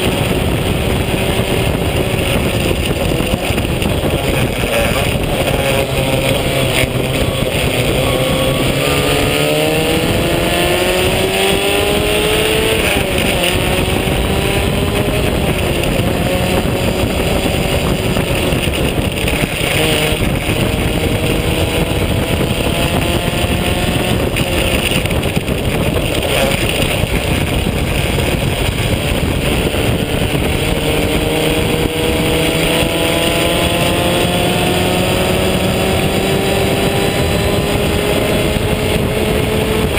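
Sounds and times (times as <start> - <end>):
race car engine accelerating: 0.0 - 39.9
wind and road noise: 0.0 - 39.9.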